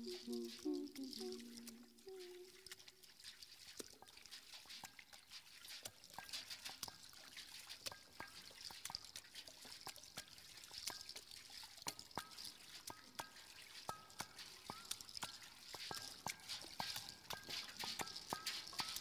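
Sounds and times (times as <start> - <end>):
water drops plinking in metal tub: 0.0 - 19.0
water trickling: 0.0 - 19.0.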